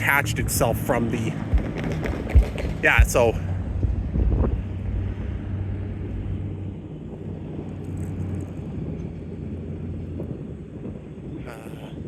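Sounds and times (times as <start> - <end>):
diesel engine running: 0.0 - 11.6.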